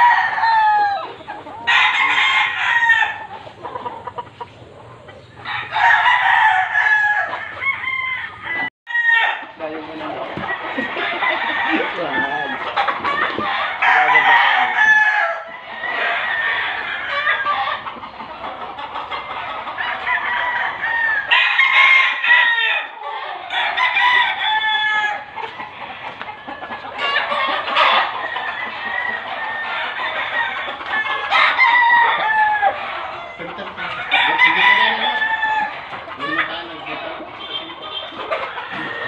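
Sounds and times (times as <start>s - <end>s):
roosters crowing: 0.0s - 39.0s.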